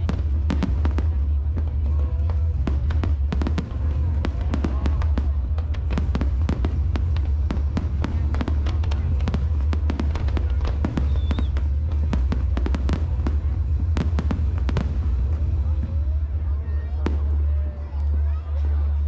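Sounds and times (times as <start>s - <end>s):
fireworks cracks and bangs: 0.0s - 18.8s
low rumble: 0.0s - 19.0s.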